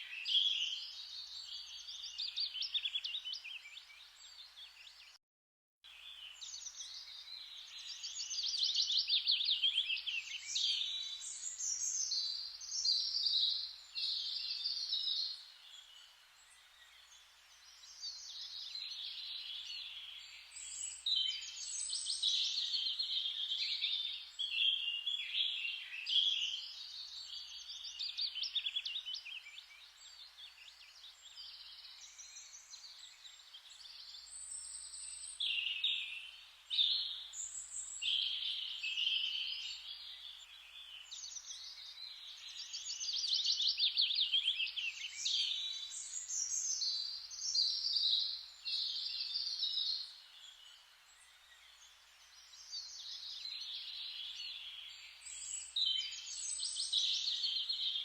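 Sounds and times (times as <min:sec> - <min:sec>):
birds singing in chorus: 0:00.0 - 0:05.2, 0:05.9 - 0:58.0
faint steady hiss: 0:05.9 - 0:58.0.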